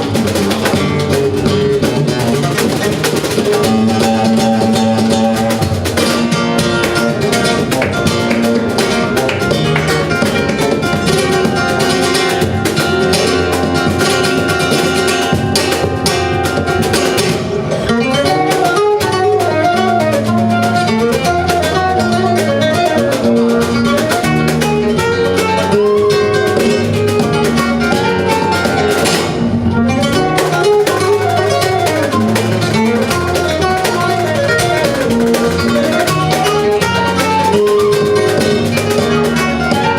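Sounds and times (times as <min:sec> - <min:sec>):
flamenco guitar music: 0:00.0 - 0:39.9.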